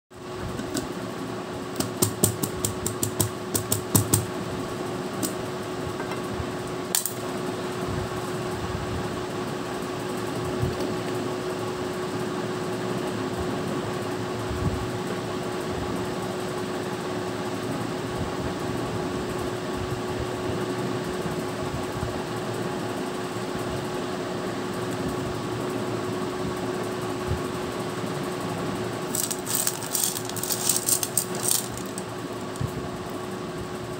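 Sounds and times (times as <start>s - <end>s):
fan hum: 0.1s - 33.9s.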